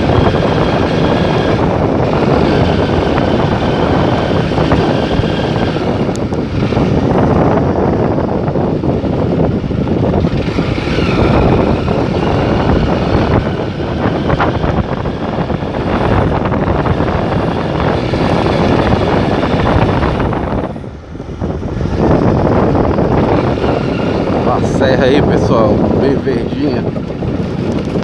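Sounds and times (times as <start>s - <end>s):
vehicle road rumble: 0.0s - 28.0s
wind buffeting microphone: 0.0s - 28.0s.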